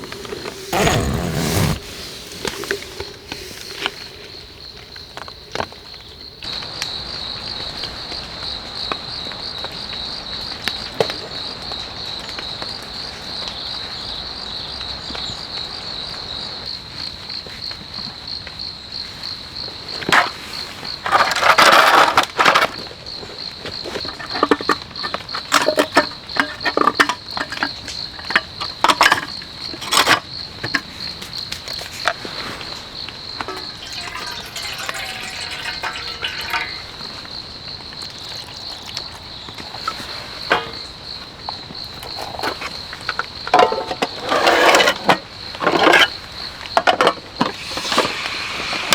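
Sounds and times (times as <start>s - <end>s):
insects trilling: 1.8s - 48.9s.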